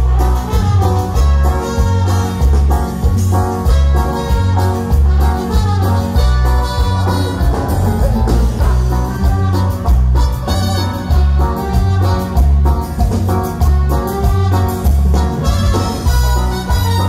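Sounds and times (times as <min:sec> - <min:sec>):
live band playing dance music: 0:00.0 - 0:17.0.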